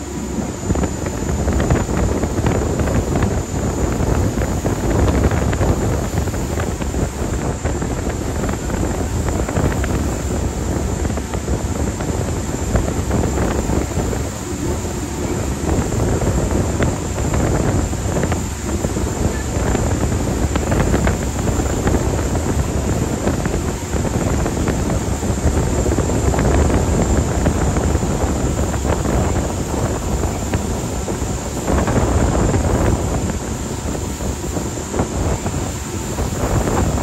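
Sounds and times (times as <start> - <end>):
thin high whine: 0.0 - 37.0
wind noise on microphone: 0.0 - 37.0.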